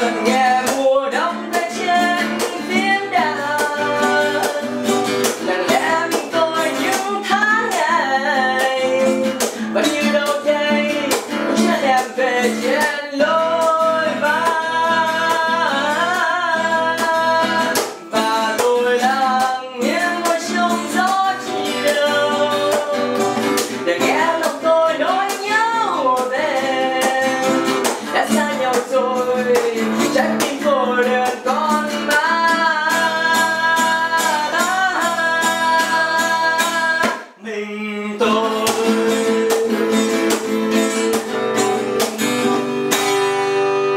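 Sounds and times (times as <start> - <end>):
person singing: 0.0 - 42.2
acoustic guitar: 0.0 - 43.9.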